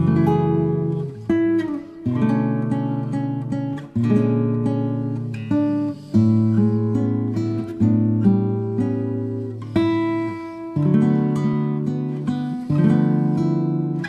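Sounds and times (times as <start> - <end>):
strummed acoustic guitar chords: 0.0 - 14.0.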